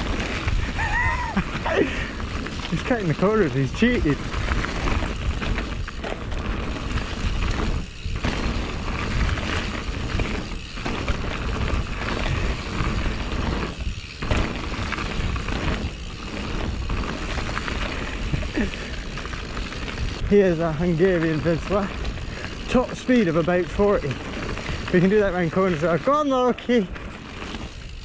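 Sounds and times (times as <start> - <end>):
bike rattling: 0.0 - 28.0
bike tyres rolling over dirt: 0.0 - 28.0.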